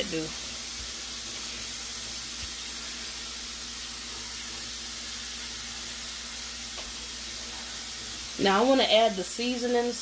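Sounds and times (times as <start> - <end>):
pot of water hissing: 0.0 - 10.0.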